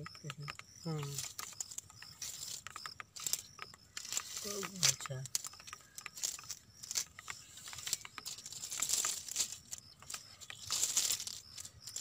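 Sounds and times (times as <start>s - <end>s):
sharp clicks: 0.0s - 12.0s
net rustling over grass: 0.9s - 12.0s.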